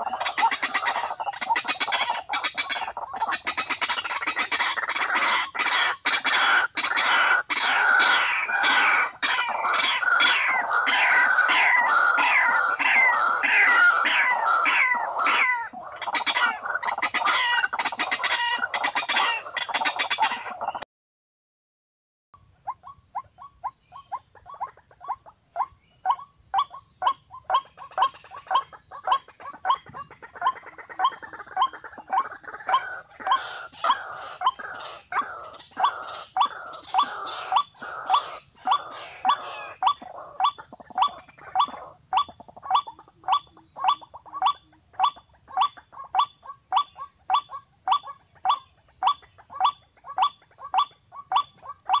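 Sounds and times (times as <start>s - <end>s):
bird chattering calls: 0.0s - 20.8s, 22.6s - 52.0s.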